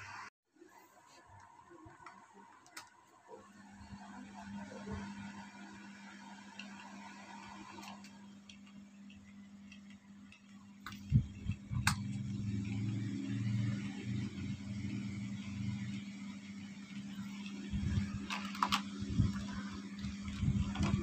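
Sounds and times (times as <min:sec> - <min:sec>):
desk fan motor humming: 0:01.3 - 0:21.0.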